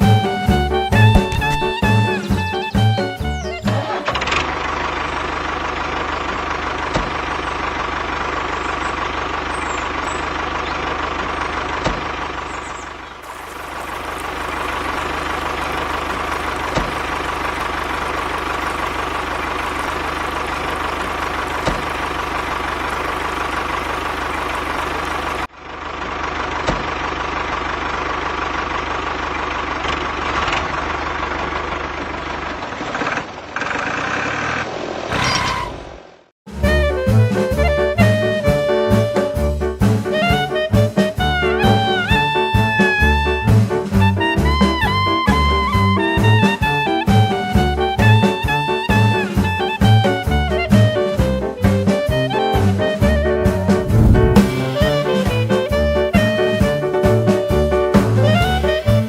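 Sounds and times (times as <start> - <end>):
engine idling: 0.0 - 34.9, 36.8 - 59.0.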